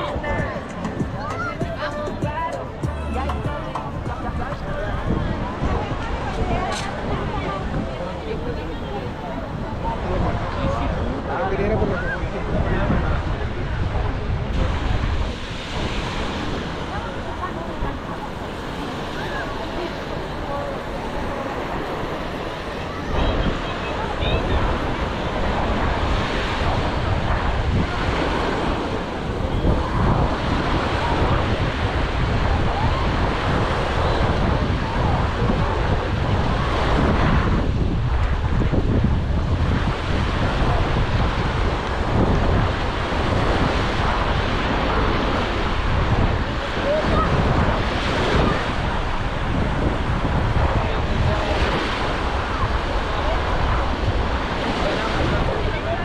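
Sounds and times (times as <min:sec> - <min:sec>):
surf washing onto beach: 0:00.0 - 0:56.0
wind on microphone: 0:00.0 - 0:56.0.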